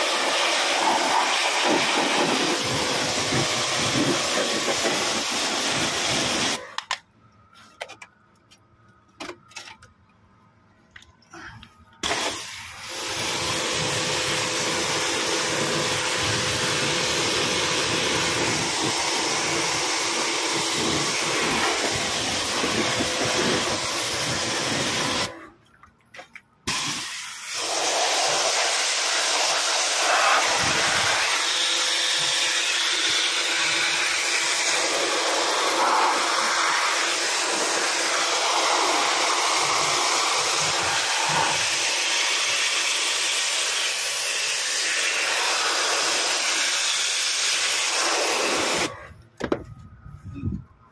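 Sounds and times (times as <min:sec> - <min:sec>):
pressure washer spray hissing: 0:00.0 - 0:06.6, 0:12.0 - 0:25.3, 0:26.7 - 0:48.9.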